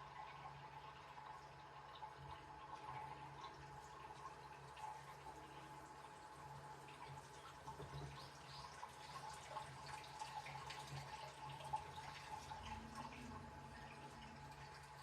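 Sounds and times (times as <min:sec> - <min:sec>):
washing machine low hum: 0:00.0 - 0:15.0
water splashing in washing machine: 0:00.0 - 0:15.0.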